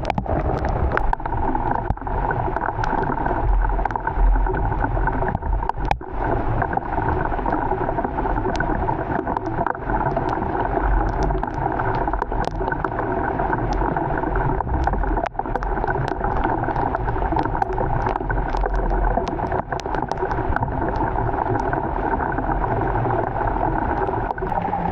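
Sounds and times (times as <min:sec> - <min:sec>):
raindrops ticking on surfaces: 0:00.0 - 0:06.2, 0:08.3 - 0:24.5
low rumble: 0:00.0 - 0:24.9.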